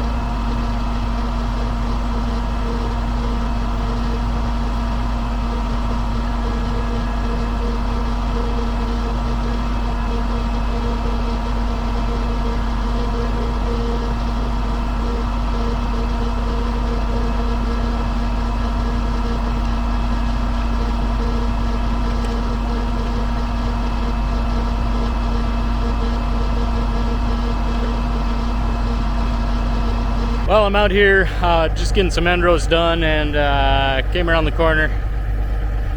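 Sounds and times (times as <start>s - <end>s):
tractor diesel engine droning: 0.0s - 35.9s.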